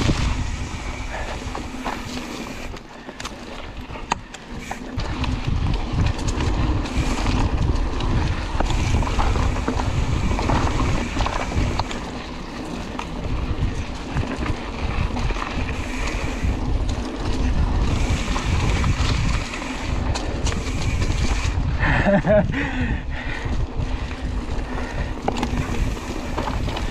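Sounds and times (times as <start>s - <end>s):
bike clicks and knocks: 0.0s - 22.7s, 23.5s - 26.9s
wind rumbling on microphone: 0.0s - 26.9s.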